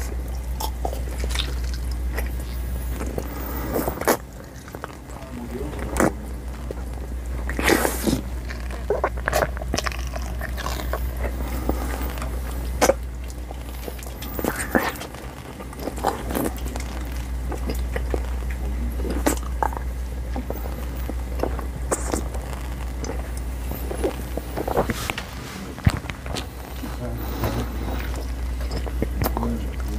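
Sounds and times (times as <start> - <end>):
gum chewing with wet smacks: 0.0 - 29.9.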